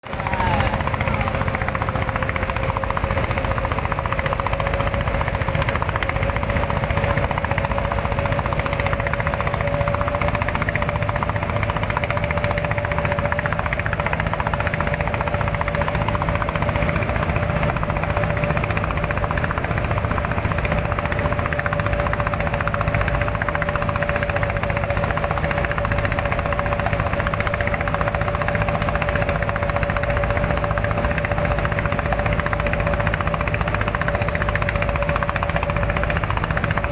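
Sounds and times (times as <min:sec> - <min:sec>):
small motor whining and rattling: 0:00.3 - 0:36.9.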